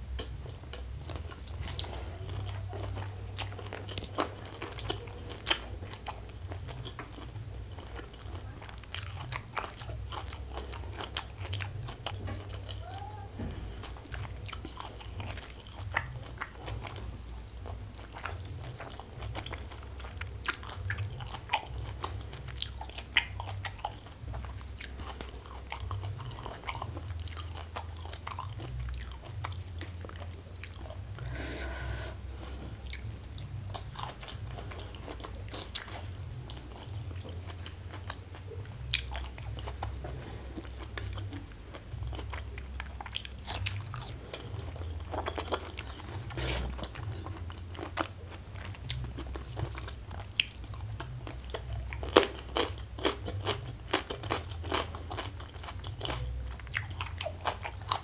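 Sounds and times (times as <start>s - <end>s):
person chewing and biting food: 0.2s - 12.9s, 13.5s - 58.0s.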